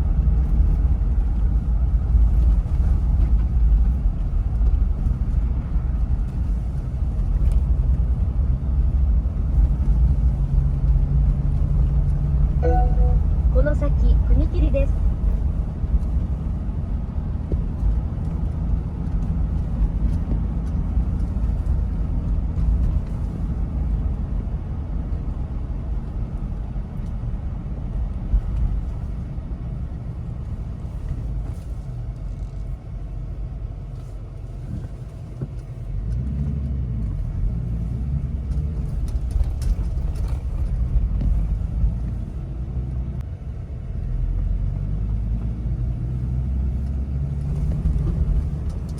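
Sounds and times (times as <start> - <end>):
car engine rumble: 0.0 - 48.9
road noise: 0.0 - 48.9.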